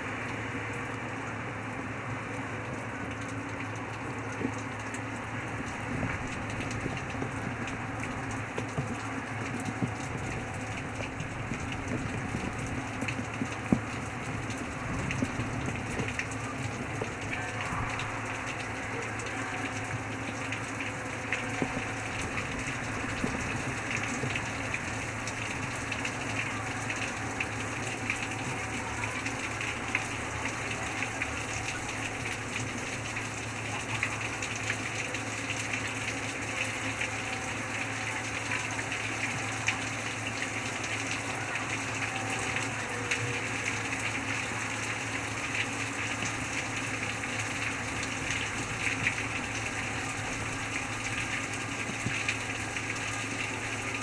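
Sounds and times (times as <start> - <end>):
rain hissing: 0.0 - 54.0
close raindrop ticks: 0.2 - 54.0.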